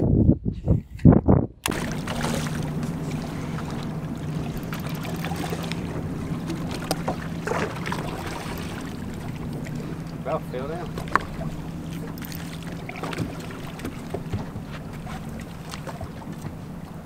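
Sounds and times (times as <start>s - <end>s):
wind: 0.0s - 17.0s
steady low hum: 1.6s - 17.0s
water noise around boat: 1.6s - 17.0s.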